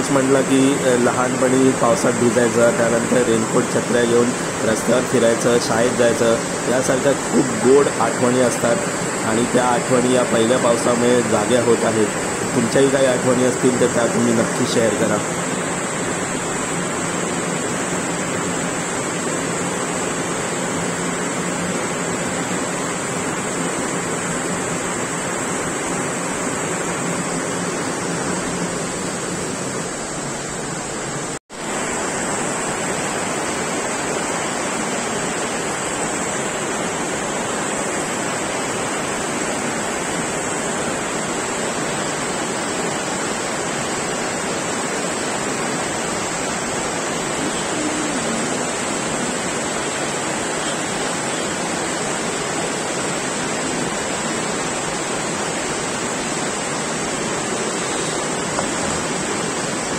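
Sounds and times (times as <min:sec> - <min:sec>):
torrential rain: 0:00.0 - 0:59.9.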